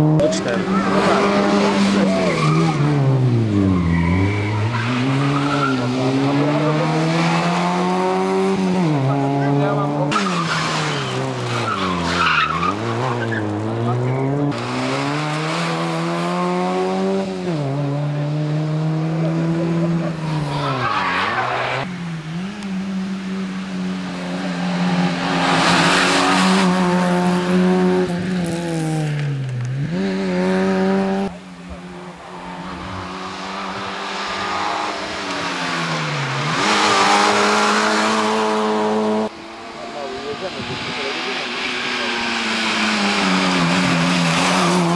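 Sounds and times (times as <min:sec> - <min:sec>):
rally car engine revving hard: 0:00.0 - 0:44.9.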